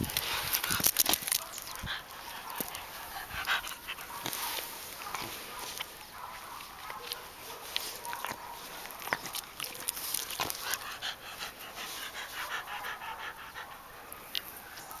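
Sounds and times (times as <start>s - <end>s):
dog panting: 0.1s - 15.0s.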